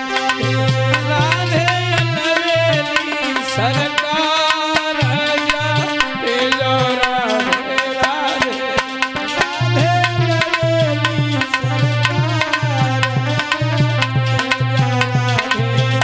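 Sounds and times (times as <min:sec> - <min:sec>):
sustained melody with gliding notes: 0:00.0 - 0:16.0
tabla playing sharp strokes: 0:00.0 - 0:16.0.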